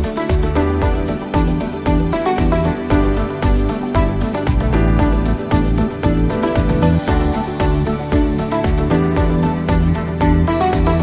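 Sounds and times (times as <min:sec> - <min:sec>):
electronic music with a beat: 0:00.0 - 0:11.0.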